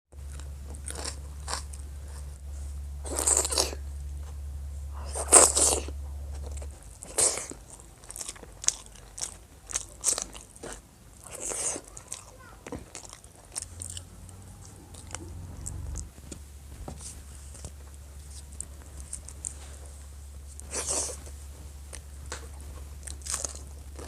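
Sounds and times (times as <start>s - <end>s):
low hum: 0.1s - 9.2s, 13.2s - 24.0s
crunching crisp fried food: 0.2s - 16.1s, 17.0s - 24.0s.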